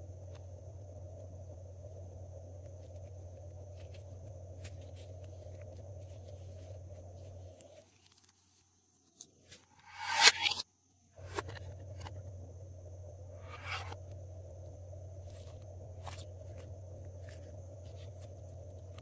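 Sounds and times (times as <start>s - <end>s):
steady hum: 0.0s - 7.8s, 9.8s - 19.0s.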